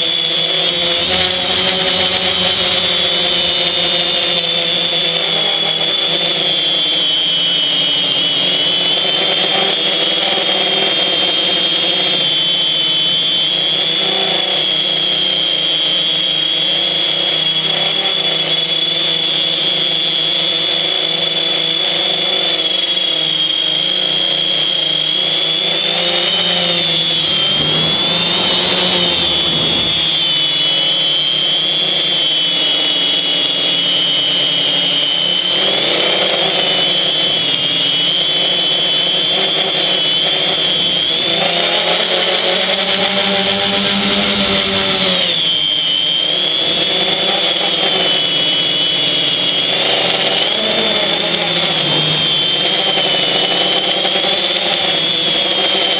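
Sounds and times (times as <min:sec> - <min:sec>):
quadcopter motors buzzing and whining: 0:00.0 - 0:55.9.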